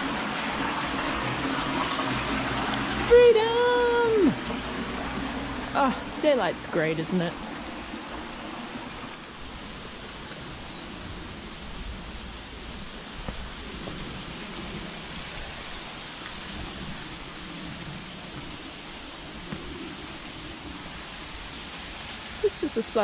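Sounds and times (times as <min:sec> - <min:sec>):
creek rushing over rocks: 0:00.0 - 0:23.0.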